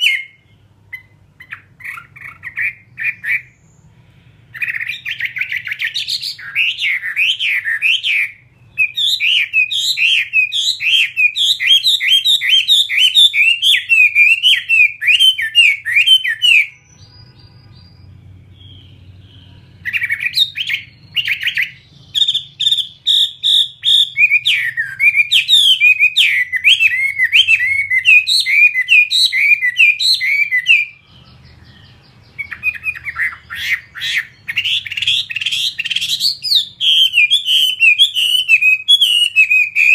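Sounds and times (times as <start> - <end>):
laughingthrush singing whistled notes: 0.0 - 39.9.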